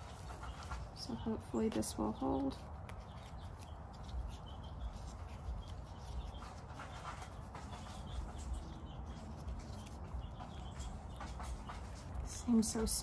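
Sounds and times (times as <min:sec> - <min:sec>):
tape rustling: 0:00.0 - 0:13.0.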